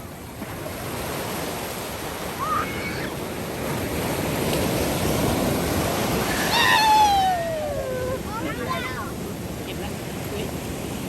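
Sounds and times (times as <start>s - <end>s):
sea surf on sandy beach: 0.0s - 11.0s.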